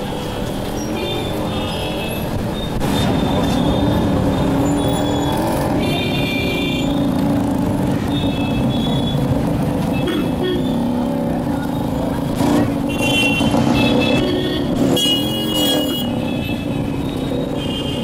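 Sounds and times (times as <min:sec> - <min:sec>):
motorcycle and car engines: 0:00.0 - 0:18.0.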